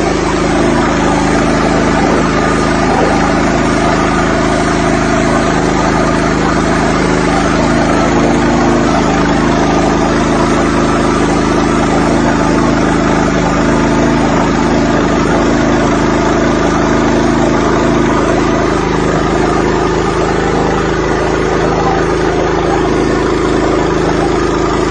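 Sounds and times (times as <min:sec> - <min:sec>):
pressure washer running: 0:00.0 - 0:24.9.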